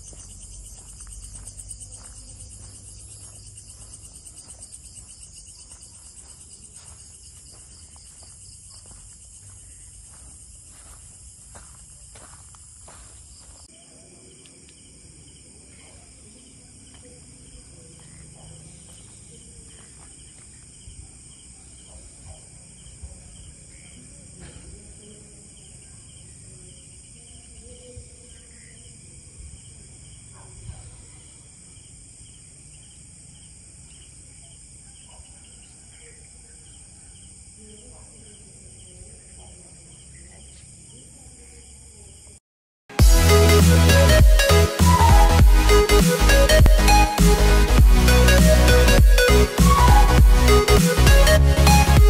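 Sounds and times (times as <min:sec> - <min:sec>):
insect chirping: 0:00.0 - 0:42.4
insects trilling: 0:00.0 - 0:42.4.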